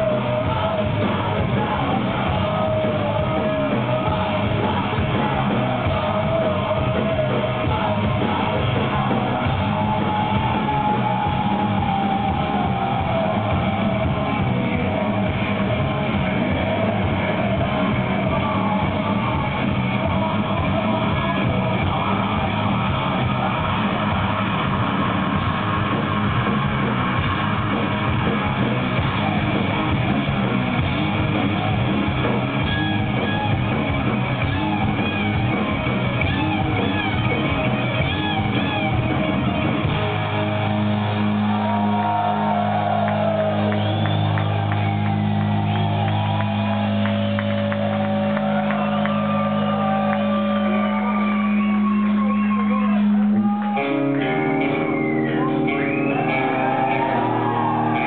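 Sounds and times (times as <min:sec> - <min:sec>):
bass guitar: 0:00.0 - 0:58.0
distorted electric guitars: 0:00.0 - 0:58.0
drums: 0:00.0 - 0:58.0.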